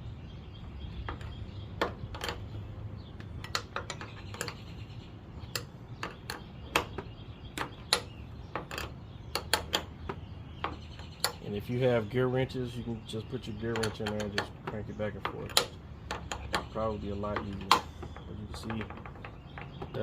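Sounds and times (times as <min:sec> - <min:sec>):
wrench clinking on metal nut: 0:01.0 - 0:04.8, 0:05.4 - 0:11.5, 0:13.4 - 0:20.0.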